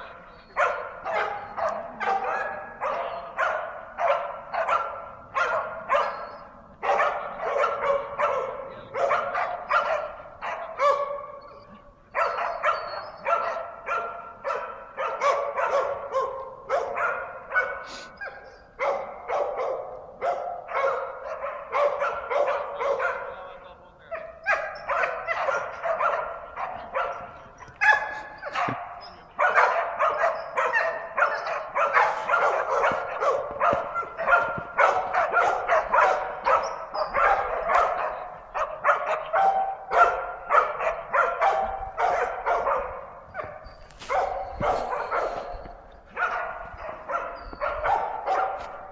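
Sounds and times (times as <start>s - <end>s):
dogs barking quickly: 0.0s - 48.9s.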